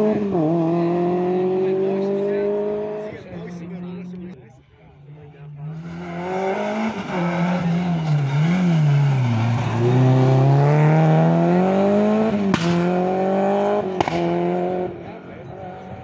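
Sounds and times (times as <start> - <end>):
rally car engine revving: 0.0 - 4.2, 5.5 - 16.0.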